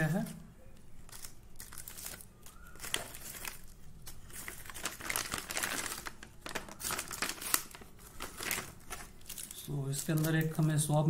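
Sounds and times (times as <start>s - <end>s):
foil and plastic crinkling: 1.0s - 11.0s.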